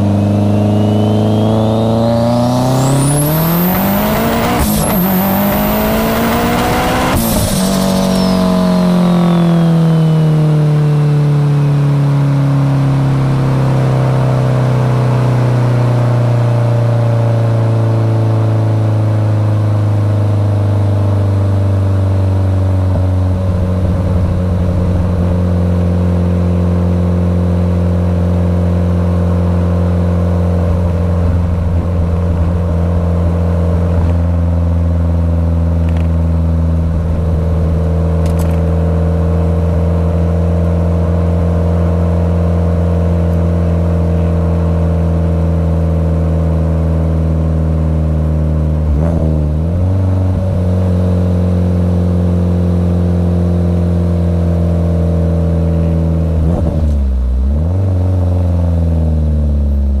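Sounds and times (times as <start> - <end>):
car engine droning in cabin: 0.0 - 60.0.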